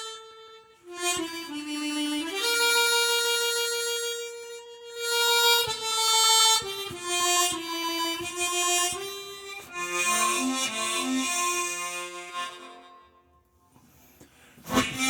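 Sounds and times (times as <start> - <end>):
harmonica playing slow melody: 0.0 - 13.5, 14.6 - 15.0.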